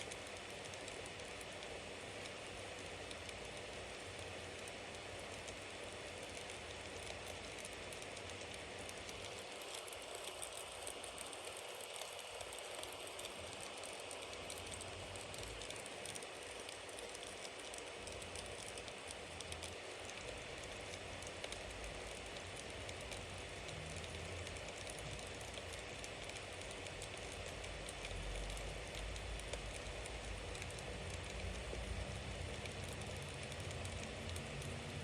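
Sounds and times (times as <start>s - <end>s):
bonfire flame hissing: 0.0s - 35.0s
wood crackling and popping: 0.0s - 35.0s.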